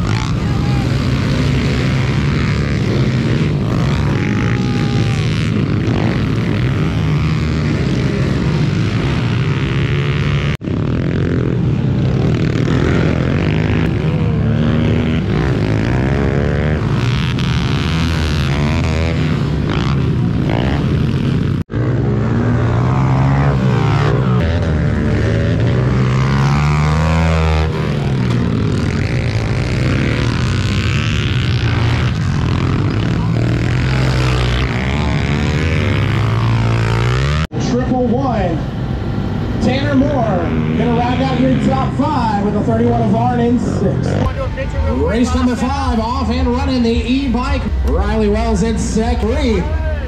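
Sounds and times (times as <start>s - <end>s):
pit bike engines revving: 0.0s - 50.0s.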